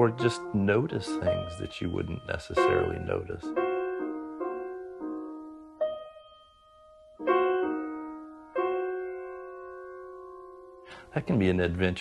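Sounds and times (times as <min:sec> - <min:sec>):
slow piano notes and chords: 0:00.0 - 0:12.0.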